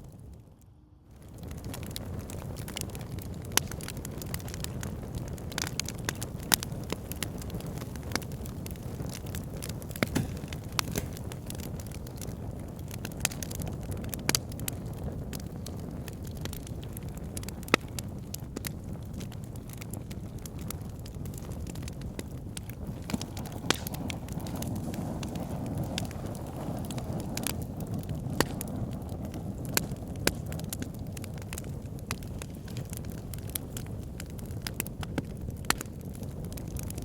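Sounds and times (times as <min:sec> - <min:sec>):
fire crackling and popping: 0:00.0 - 0:37.0
fire pit flame rumble: 0:00.0 - 0:37.0.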